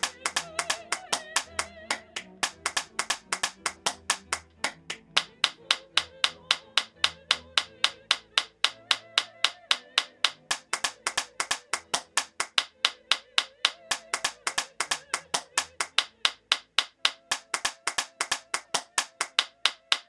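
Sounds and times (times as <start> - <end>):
person clapping hands: 0.0 - 20.0.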